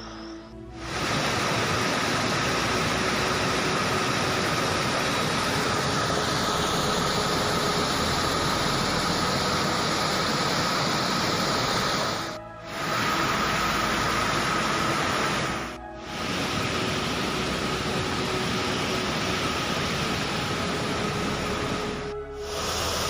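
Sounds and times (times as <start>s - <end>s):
rushing mountain stream: 0.8s - 23.0s.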